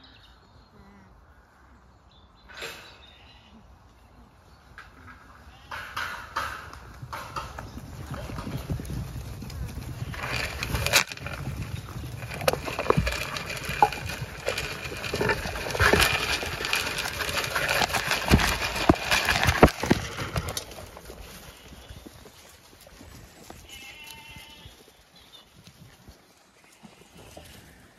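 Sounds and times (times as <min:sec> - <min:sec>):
hooves scuffling and clattering: 0:04.4 - 0:27.9
sheep eating at trough: 0:05.5 - 0:27.9.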